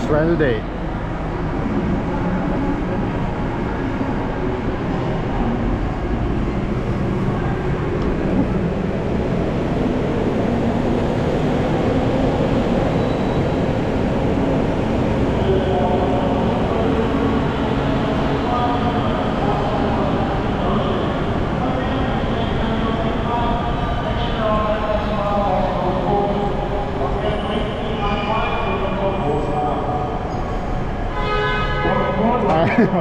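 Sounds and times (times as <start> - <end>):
tram engine rumble: 0.0 - 33.0.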